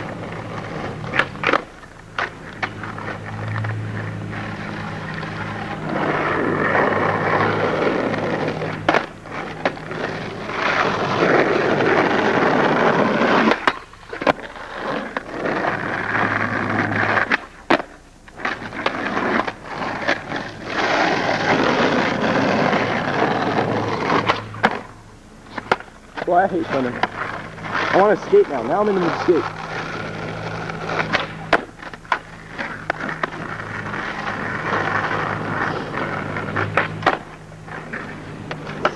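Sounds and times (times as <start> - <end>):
skateboard clacks: 0.0 - 38.9
skateboard wheels rolling on asphalt: 0.0 - 38.9.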